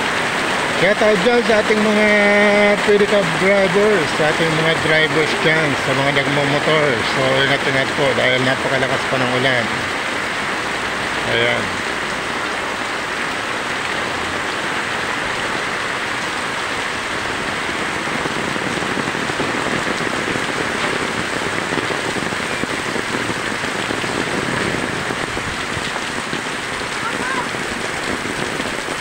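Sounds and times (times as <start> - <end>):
heavy rain on a wet street: 0.0 - 29.0.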